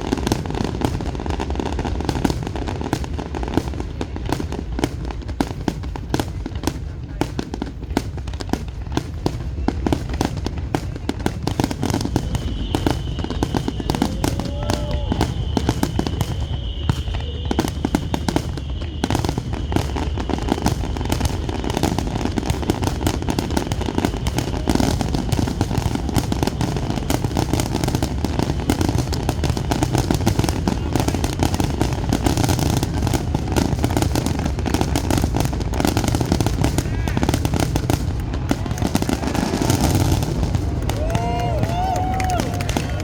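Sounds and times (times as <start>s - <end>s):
fireworks crackling and banging: 0.0s - 43.0s.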